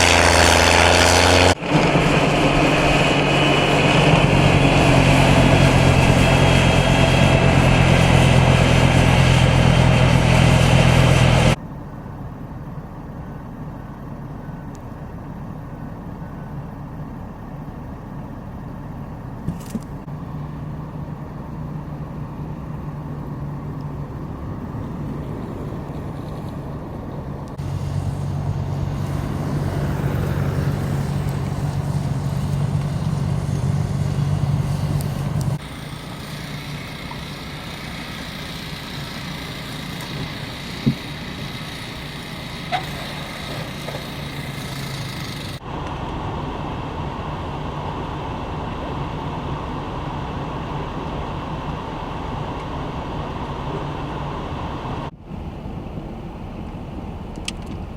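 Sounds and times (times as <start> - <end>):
loud engine running: 0.0 - 55.2
quiet engine hum: 1.5 - 57.9.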